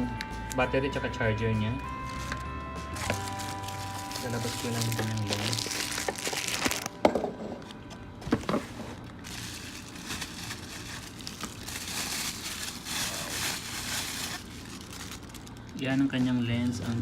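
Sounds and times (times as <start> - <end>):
packaging rustling and crinkling: 2.0 - 7.0, 8.3 - 17.0.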